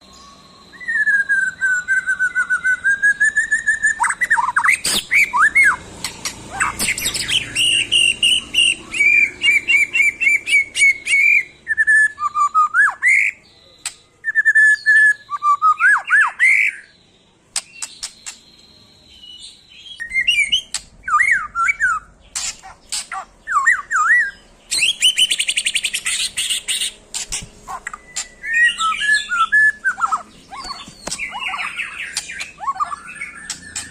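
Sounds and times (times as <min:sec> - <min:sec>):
bird singing whistles and chatter: 0:00.0 - 0:33.9.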